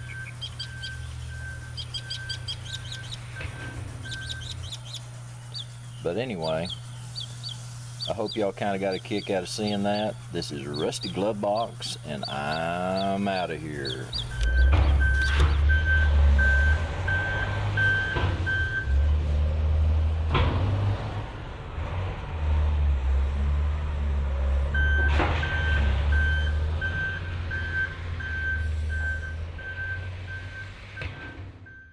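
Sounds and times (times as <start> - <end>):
reversing alarm beeping: 0.0 - 5.0, 5.6 - 19.1, 24.7 - 31.9
low engine rumble: 0.0 - 31.9.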